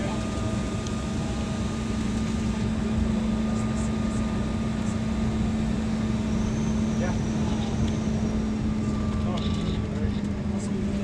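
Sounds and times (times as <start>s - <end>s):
aircraft cabin drone: 0.0s - 11.0s.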